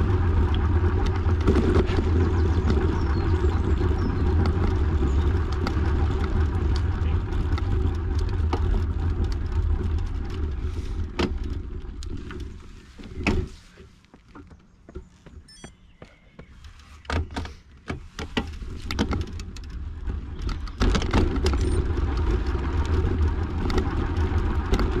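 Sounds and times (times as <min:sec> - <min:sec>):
vehicle rumbling: 0:00.0 - 0:25.0.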